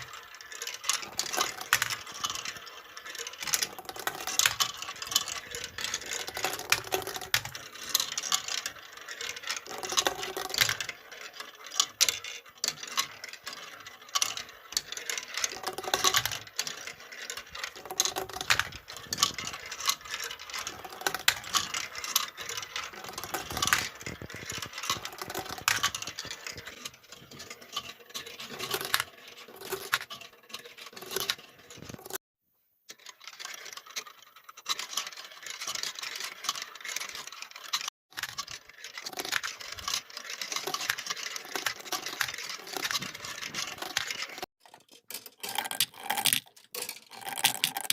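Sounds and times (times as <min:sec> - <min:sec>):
marbles clattering down wooden run: 0:00.0 - 0:32.2, 0:33.1 - 0:47.9.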